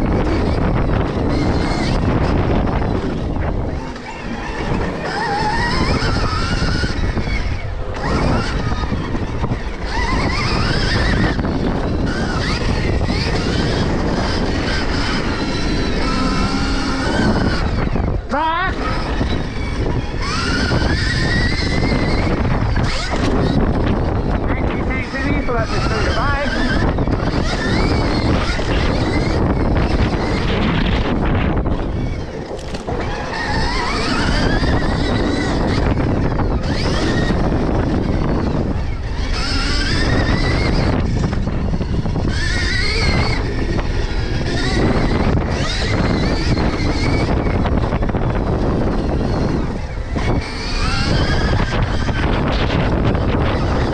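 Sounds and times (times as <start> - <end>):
electric motor whining: 0.0 - 53.9
wind buffeting microphone: 0.0 - 53.9.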